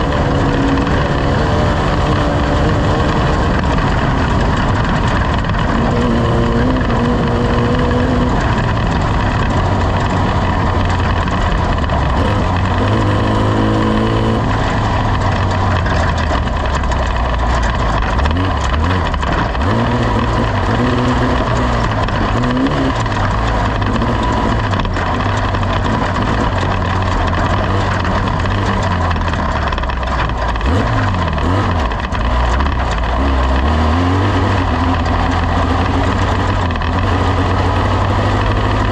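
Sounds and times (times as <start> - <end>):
race vehicle engine revving: 0.0 - 38.9.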